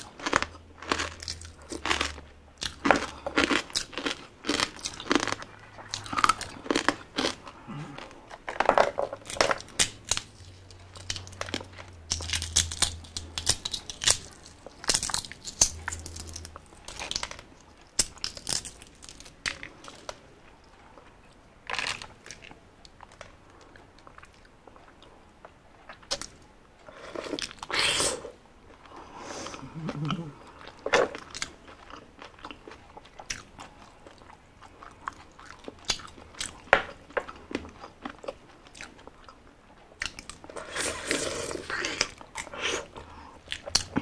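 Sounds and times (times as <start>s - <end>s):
biting and chewing: 0.0s - 26.4s, 29.9s - 44.0s.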